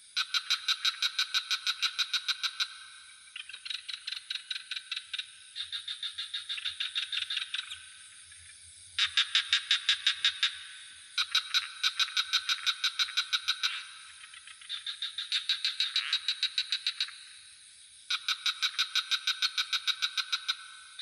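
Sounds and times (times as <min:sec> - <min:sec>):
frogs calling in rapid pulses: 0:00.0 - 0:21.0
high insect trill: 0:00.0 - 0:21.0.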